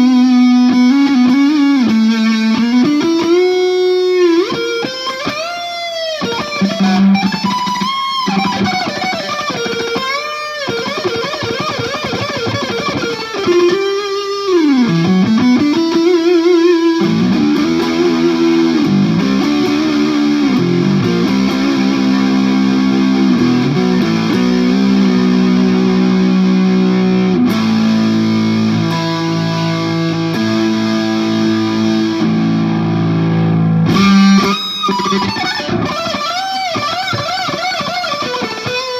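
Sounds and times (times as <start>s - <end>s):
electric guitar chords ringing: 0.0s - 38.9s
electric guitar lead lines: 0.0s - 38.9s.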